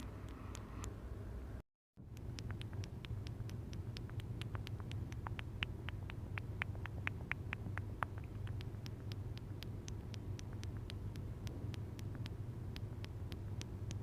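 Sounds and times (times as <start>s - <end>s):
steady low hum: 0.0s - 14.0s
rapid lip pops: 2.0s - 14.0s.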